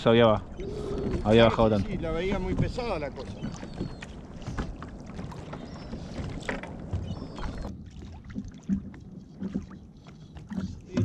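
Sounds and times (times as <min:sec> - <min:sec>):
water lapping against kayak: 0:00.0 - 0:11.0
knocks and clicks on hull: 0:00.6 - 0:11.0.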